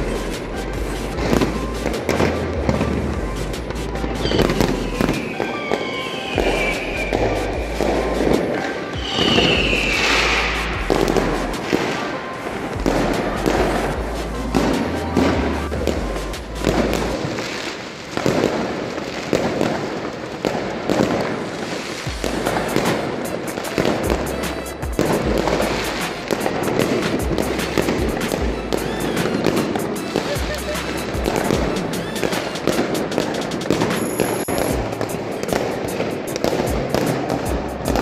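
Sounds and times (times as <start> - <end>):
fireworks bangs and crackles: 0.0 - 38.0
music playing: 0.0 - 38.0.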